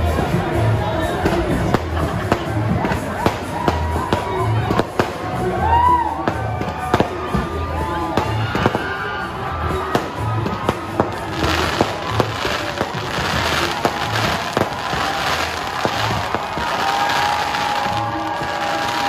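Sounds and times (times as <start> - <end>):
fireworks bangs and pops: 0.0 - 19.0
fireworks hissing crackle: 0.0 - 19.0
music with low beat: 0.0 - 19.0.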